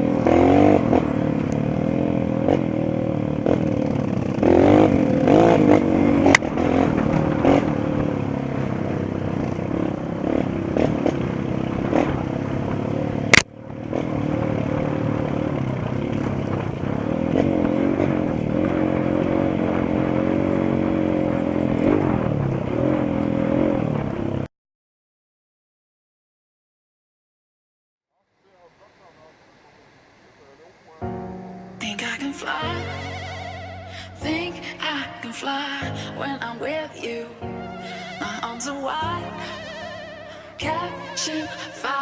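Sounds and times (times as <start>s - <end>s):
motorbike engine revving: 0.0s - 24.5s, 28.2s - 42.0s.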